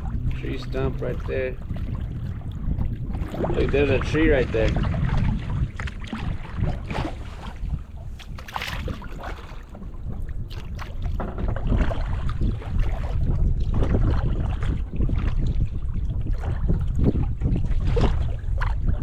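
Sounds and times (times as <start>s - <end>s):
paddle splashing water: 0.0s - 19.0s
wind rumbling on microphone: 0.0s - 19.0s.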